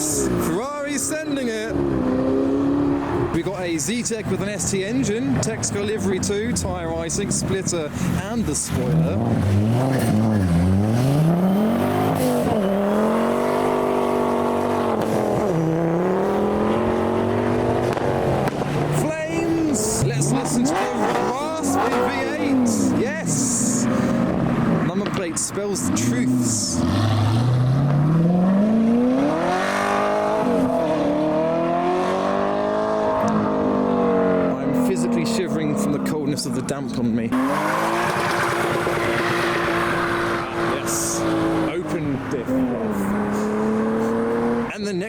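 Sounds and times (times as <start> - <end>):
car engine accelerating: 0.0 - 44.8.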